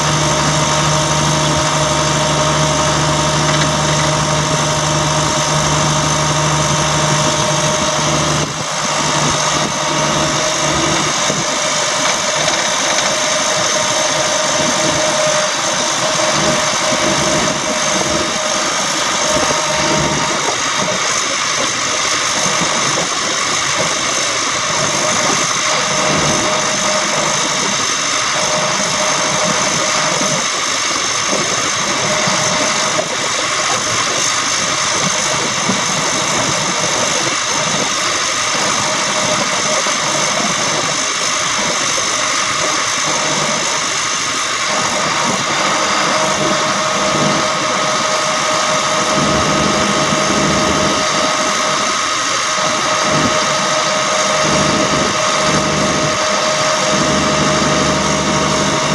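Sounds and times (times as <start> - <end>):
diesel truck engine running: 0.0 - 58.9
steady high whine: 0.0 - 58.9.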